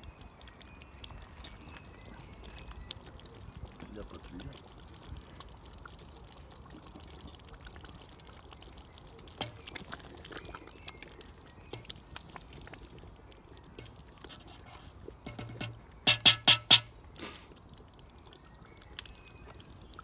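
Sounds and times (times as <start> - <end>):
stew bubbling with pops: 0.0 - 20.0.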